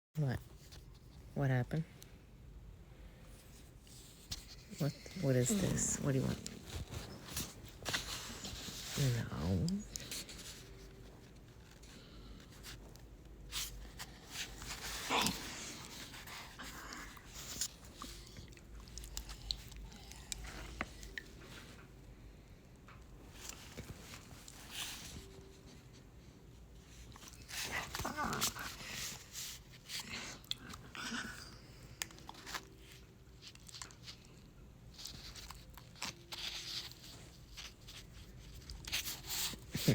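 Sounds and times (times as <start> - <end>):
puppy chewing and scuffling: 3.5 - 22.1, 22.9 - 39.9.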